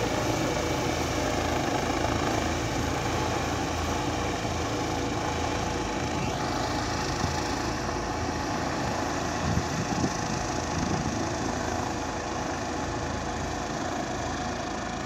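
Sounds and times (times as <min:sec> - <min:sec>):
helicopter rotor and turbine drone: 0:00.0 - 0:15.0.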